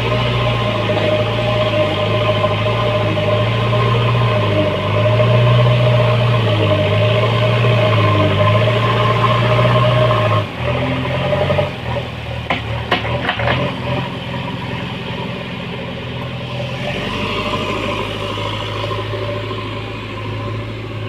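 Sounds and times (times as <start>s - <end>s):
diesel engine running at low speed: 0.0s - 21.0s.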